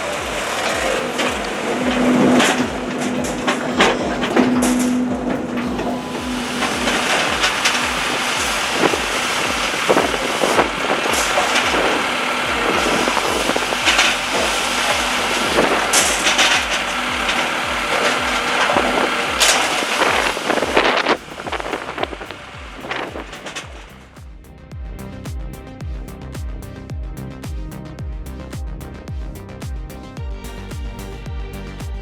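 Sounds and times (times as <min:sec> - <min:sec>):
background music with low beat: 0:00.0 - 0:32.0
heavy machine running: 0:00.0 - 0:32.0.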